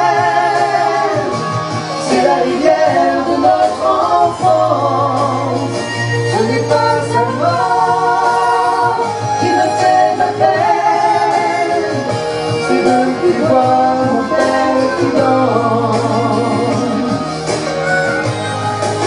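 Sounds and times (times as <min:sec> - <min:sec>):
man and woman singing duet: 0:00.0 - 0:17.6
instrumental backing track: 0:00.0 - 0:19.0.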